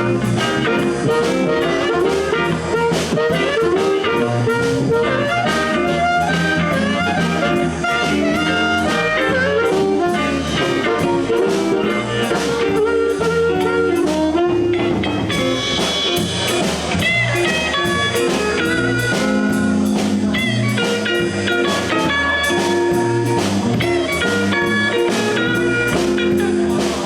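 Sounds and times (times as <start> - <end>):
blues band playing: 0.0 - 27.0
lead guitar bent notes: 0.0 - 27.0.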